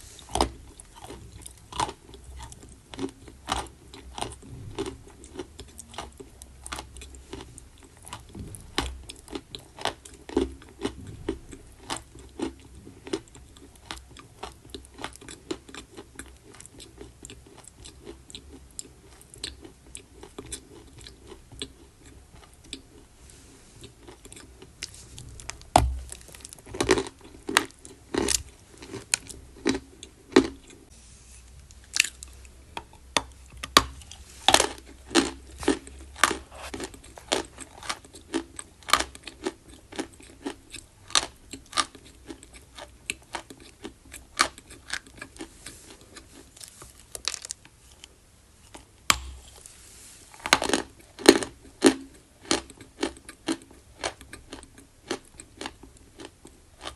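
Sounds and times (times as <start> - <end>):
crunching and chewing chalk: 0.0 - 30.9, 31.6 - 56.9.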